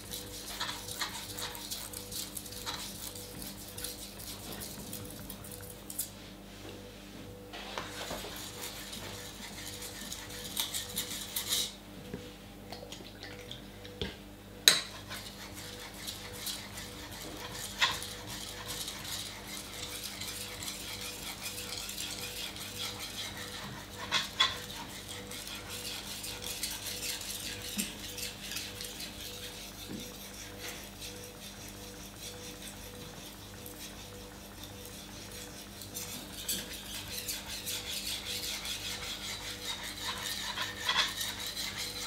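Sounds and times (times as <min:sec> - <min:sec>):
knife scraping on water stone: 0:00.0 - 0:06.1, 0:07.9 - 0:11.8, 0:14.7 - 0:42.0.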